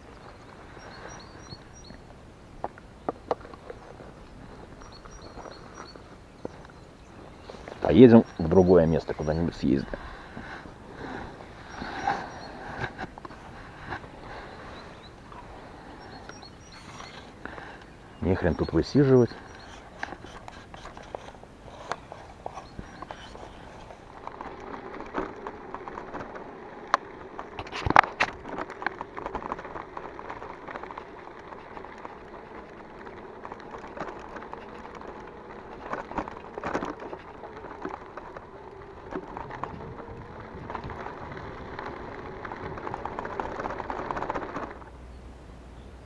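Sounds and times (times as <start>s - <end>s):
bike rattling and knocking: 0.0s - 45.3s
bicycle tyres crunching on dirt: 0.0s - 46.0s.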